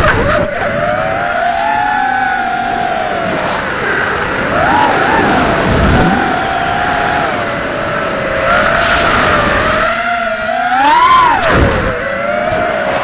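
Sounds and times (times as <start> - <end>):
drone motors whining: 0.0 - 13.0
wind rushing past: 0.5 - 13.0.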